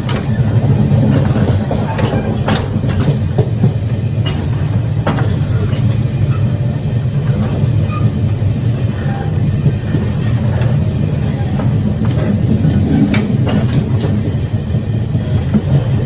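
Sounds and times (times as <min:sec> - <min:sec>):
train gangway low rumble: 0:00.0 - 0:16.0.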